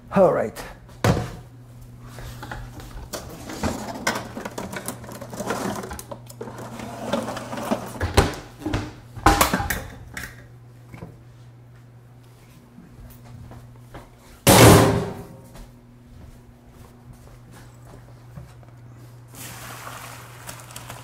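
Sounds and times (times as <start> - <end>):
steady low hum: 0.0 - 19.4.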